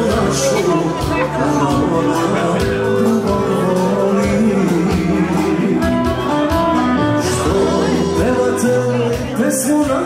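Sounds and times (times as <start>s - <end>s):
song with singing and beat: 0.0s - 10.0s.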